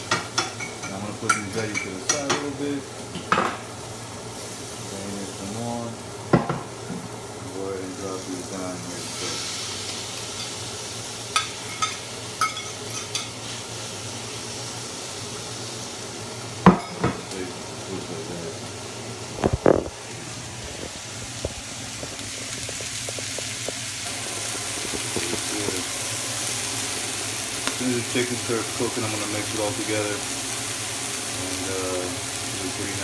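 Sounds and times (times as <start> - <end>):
food sizzling in frying pan: 0.0 - 33.0.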